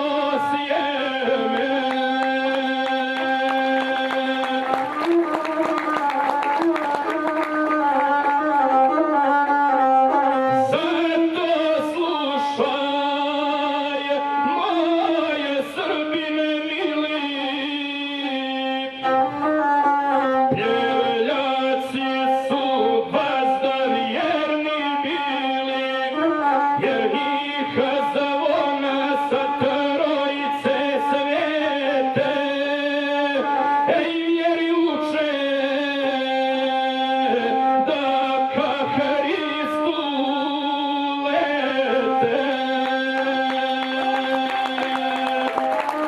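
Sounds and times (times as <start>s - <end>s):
bowed string instrument: 0.0s - 46.0s
man singing: 0.0s - 46.0s.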